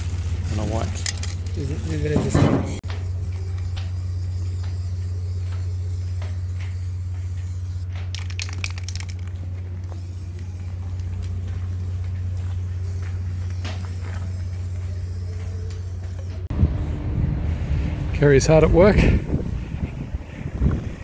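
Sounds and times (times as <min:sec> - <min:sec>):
spray paint can hissing: 0:00.0 - 0:17.0
steady low hum: 0:00.0 - 0:21.0.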